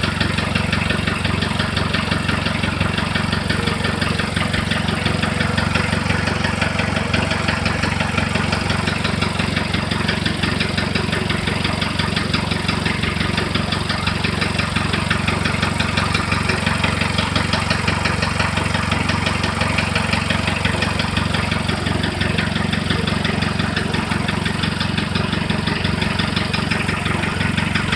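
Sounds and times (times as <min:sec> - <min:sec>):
diesel engine idling: 0:00.0 - 0:27.9
engine knocking: 0:00.0 - 0:27.9.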